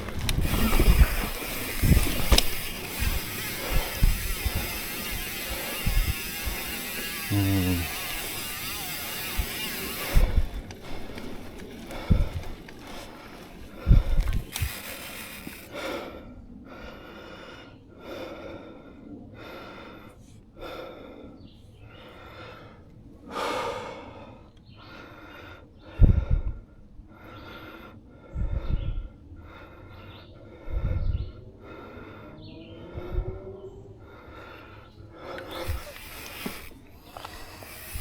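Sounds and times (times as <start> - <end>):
person breathing hard: 0.0 - 38.0.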